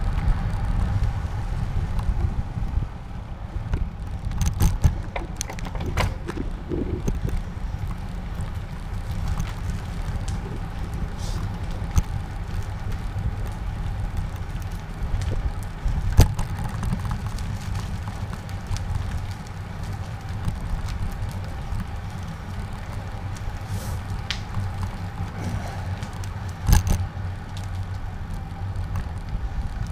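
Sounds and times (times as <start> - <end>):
bicycle rattle and tyre noise: 0.0 - 29.9
wind noise on microphone: 0.0 - 29.9.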